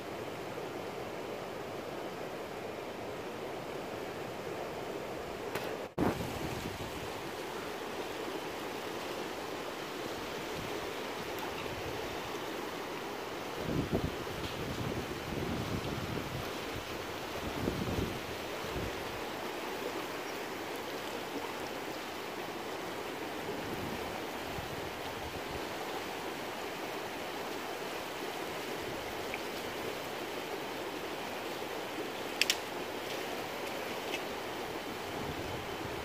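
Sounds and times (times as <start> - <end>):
river rushing past rocks: 0.0 - 36.0.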